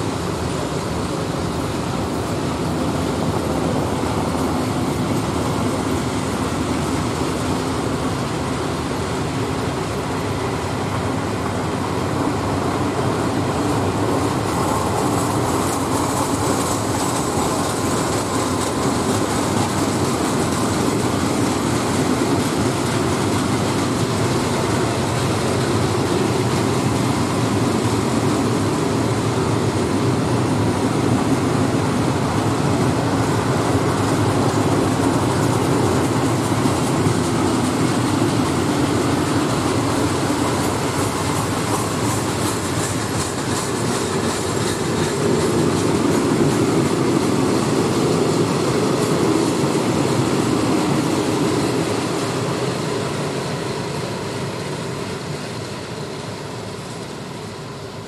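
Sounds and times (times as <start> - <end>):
freight train wheels rumbling: 0.0 - 58.0
rail clatter: 0.0 - 58.0.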